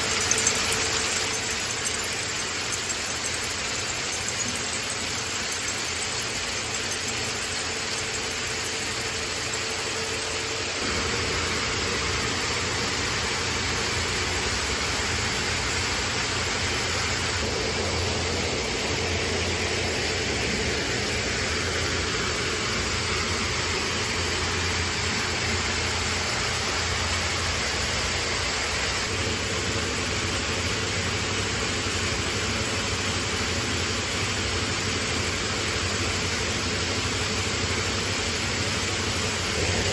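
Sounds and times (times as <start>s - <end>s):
braiding machines running: 0.0s - 39.9s.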